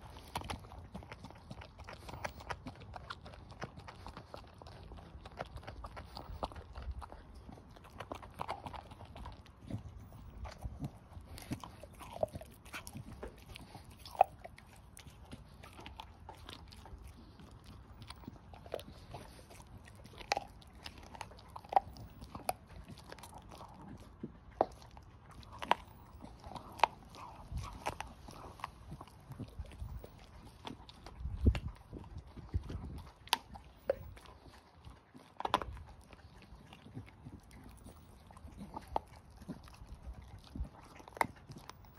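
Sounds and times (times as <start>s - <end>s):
dog gnawing and crunching bone: 0.0s - 41.9s.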